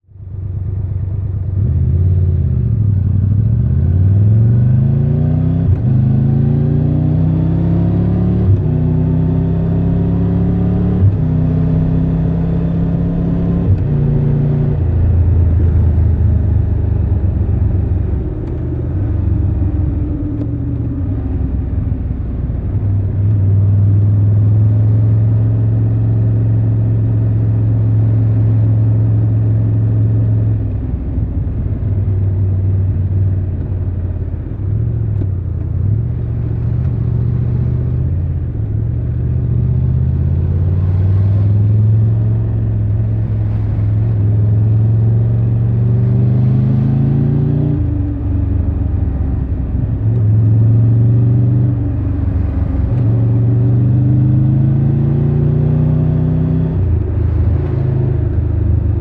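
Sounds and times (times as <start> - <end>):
motorcycle engine accelerating: 0.4 - 59.0.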